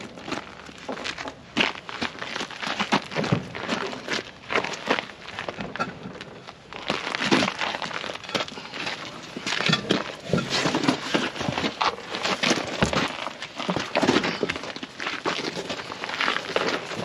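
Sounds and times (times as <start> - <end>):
knocks clicks and scraping on wheel: 0.0 - 17.0.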